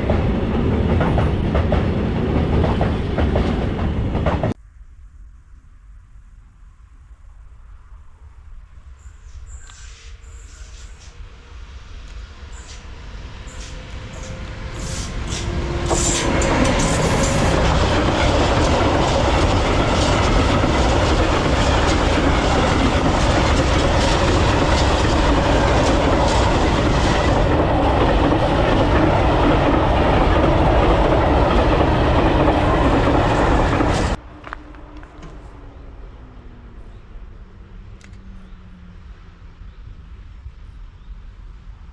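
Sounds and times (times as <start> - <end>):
freight train rumbling past: 0.0 - 4.6, 8.0 - 40.3.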